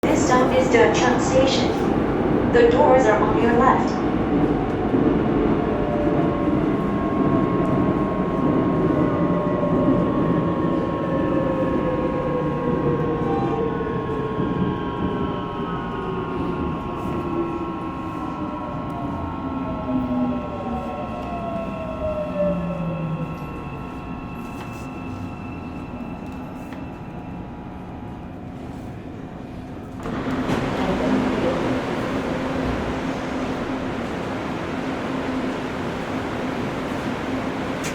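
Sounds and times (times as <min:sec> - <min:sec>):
wheels rumbling on rail: 0:00.0 - 0:37.9.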